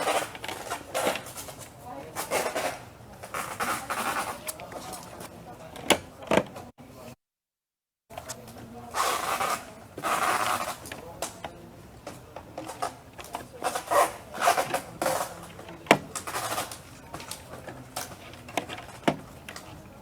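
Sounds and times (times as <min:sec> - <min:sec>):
rustling and scraping of materials: 0:00.0 - 0:05.3, 0:08.1 - 0:20.0.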